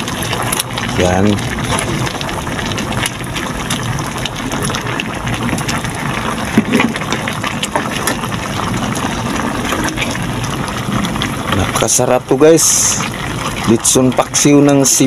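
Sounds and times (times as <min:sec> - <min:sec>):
sauce bubbling and sputtering: 0:00.0 - 0:15.0.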